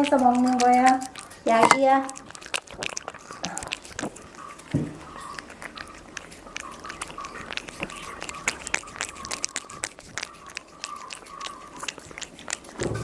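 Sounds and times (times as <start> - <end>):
cat chewing and smacking: 0.0 - 13.0.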